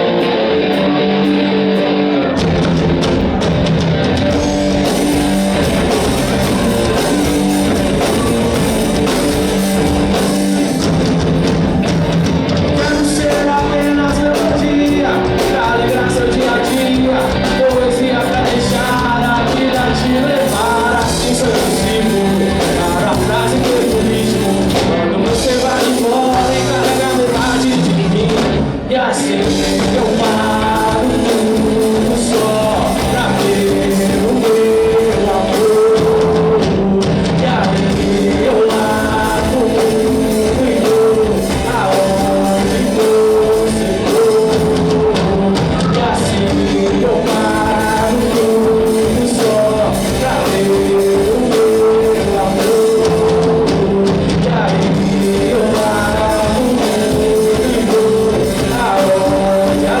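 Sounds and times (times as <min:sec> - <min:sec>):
person singing: 0:00.0 - 1:00.0
rock band playing live: 0:00.0 - 1:00.0.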